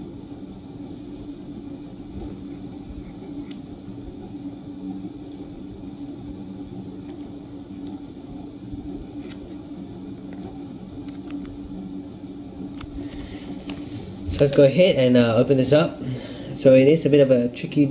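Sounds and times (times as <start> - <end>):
low electrical hum: 0.0 - 17.9.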